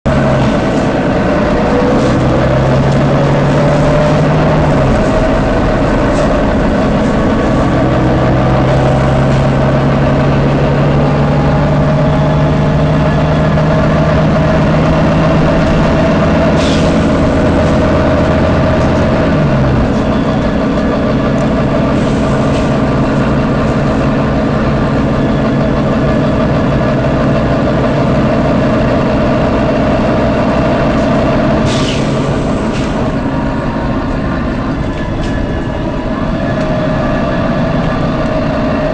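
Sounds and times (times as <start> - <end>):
bus diesel engine droning: 0.0 - 38.9.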